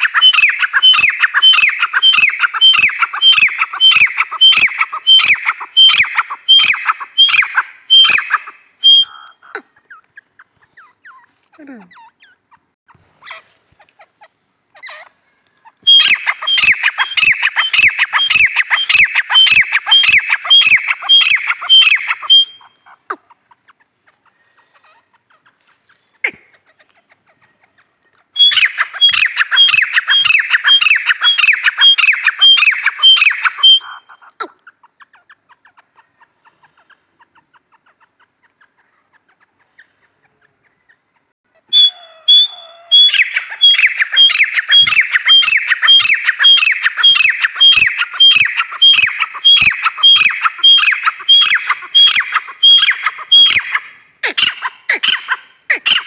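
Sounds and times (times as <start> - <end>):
francolin calling: 0.0 - 56.0.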